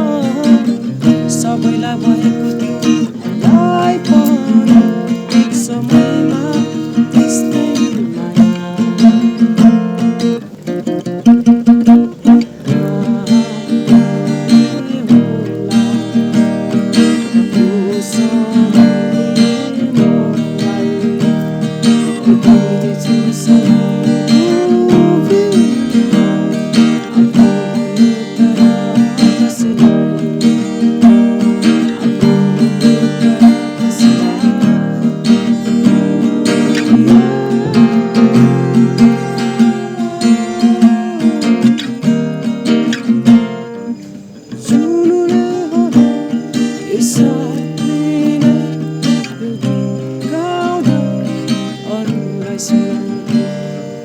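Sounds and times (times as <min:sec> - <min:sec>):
person singing: 0:00.0 - 0:10.1, 0:11.6 - 0:42.9, 0:44.5 - 0:53.6
acoustic guitar strumming: 0:00.0 - 0:54.0.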